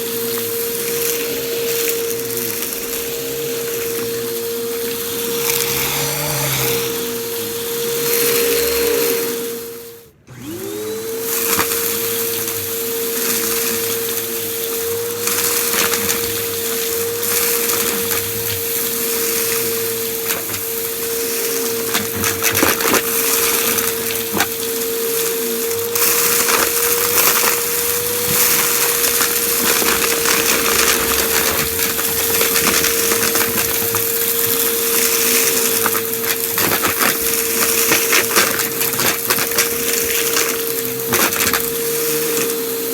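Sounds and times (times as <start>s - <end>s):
debris crackling being sucked up: 0.0s - 42.9s
vacuum cleaner motor whine: 0.0s - 42.9s.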